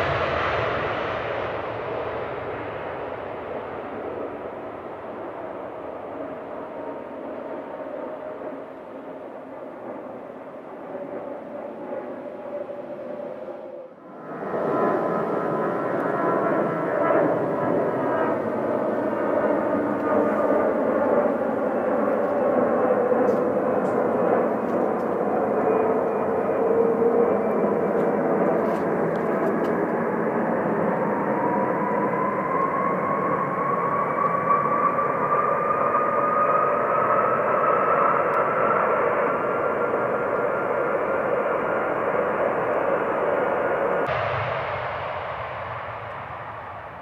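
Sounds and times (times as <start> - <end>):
jet engines running: 0.0 - 47.0
rising engine whine: 0.0 - 47.0.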